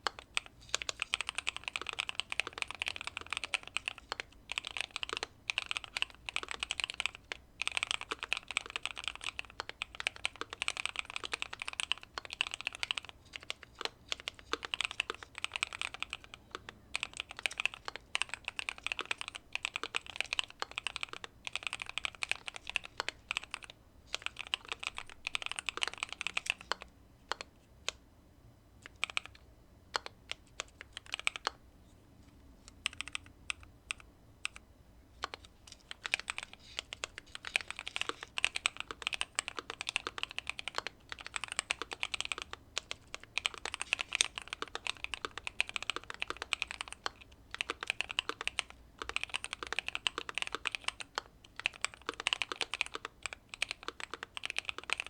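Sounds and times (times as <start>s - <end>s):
mechanical keyboard typing: 0.0s - 28.0s, 28.8s - 31.6s, 32.8s - 34.6s, 35.2s - 55.0s.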